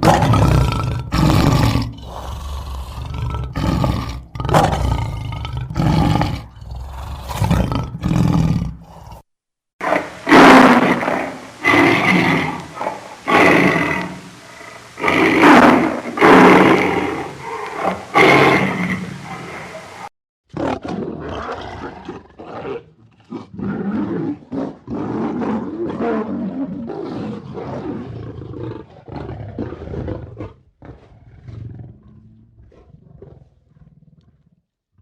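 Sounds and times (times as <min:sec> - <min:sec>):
lions roaring: 0:00.0 - 0:09.2, 0:09.8 - 0:34.5.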